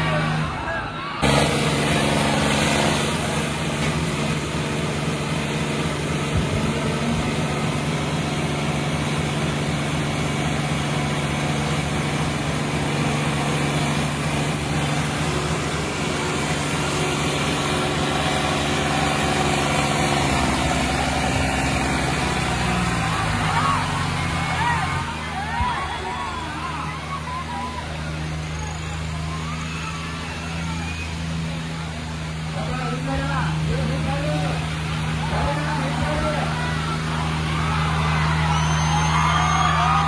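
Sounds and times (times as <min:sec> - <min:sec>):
diesel tractor engines running hard: 0:00.0 - 0:40.0.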